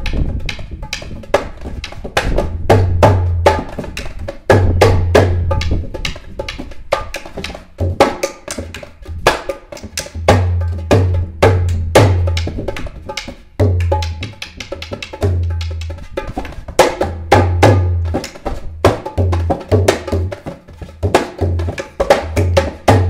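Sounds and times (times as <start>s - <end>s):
hand drum playing fast rhythm: 0.0s - 23.0s.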